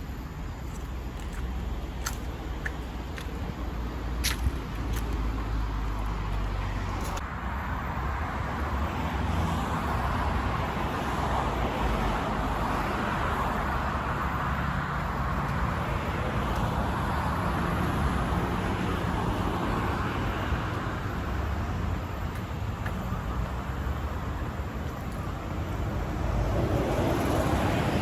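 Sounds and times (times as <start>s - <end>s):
road traffic hum: 0.0s - 28.0s.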